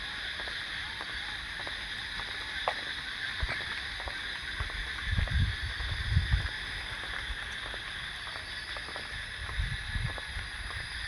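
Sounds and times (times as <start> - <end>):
crickets chirping: 0.0 - 11.0
water trickling and dripping: 0.0 - 11.0.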